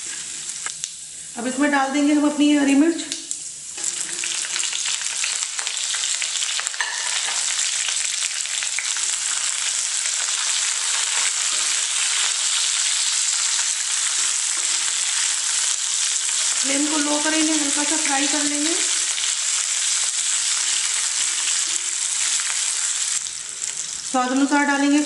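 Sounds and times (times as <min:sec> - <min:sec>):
chillies sizzling in hot oil: 0:00.0 - 0:25.0.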